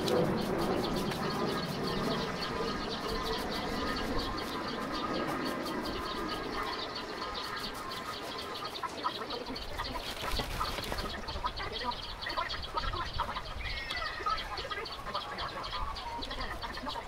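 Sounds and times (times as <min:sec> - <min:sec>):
birds chirping: 0:00.0 - 0:17.0
insects buzzing: 0:00.0 - 0:17.0.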